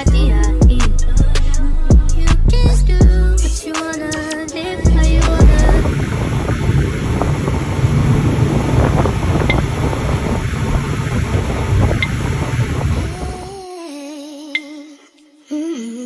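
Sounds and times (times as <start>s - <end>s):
wind buffeting microphone: 0.6s - 13.5s.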